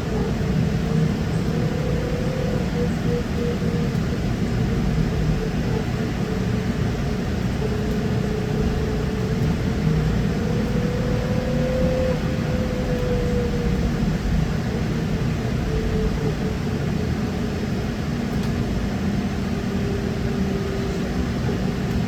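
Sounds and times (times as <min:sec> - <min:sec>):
bus road rumble: 0:00.0 - 0:22.0.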